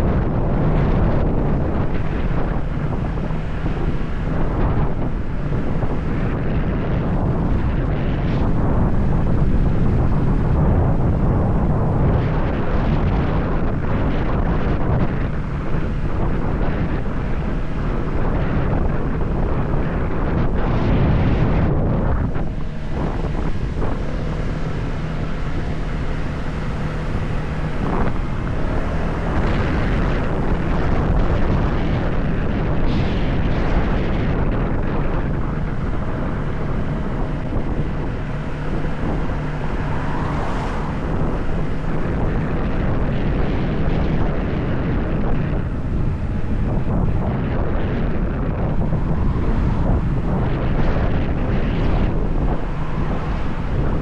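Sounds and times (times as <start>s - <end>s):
motorcycle engine drone: 0.0s - 54.0s
wind rush over microphone: 0.0s - 54.0s.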